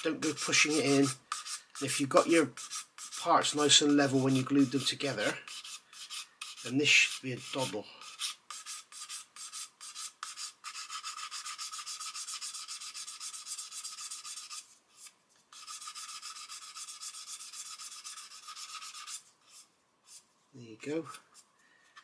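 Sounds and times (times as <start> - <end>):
sanding stick rubbing plastic: 0.0 - 20.2.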